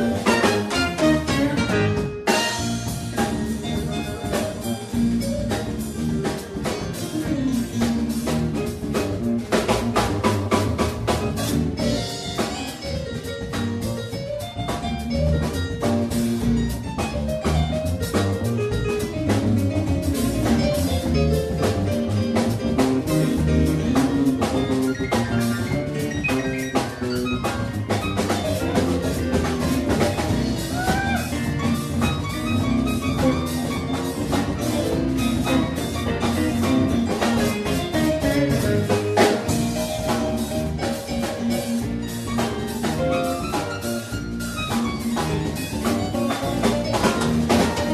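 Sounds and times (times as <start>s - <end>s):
drum kit: 0.0s - 47.9s
electric bass: 0.0s - 47.9s
electric guitar: 0.0s - 47.9s.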